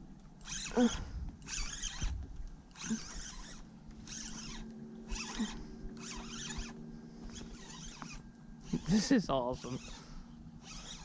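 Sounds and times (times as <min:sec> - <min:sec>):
fishing reel whirring: 0:00.4 - 0:11.0.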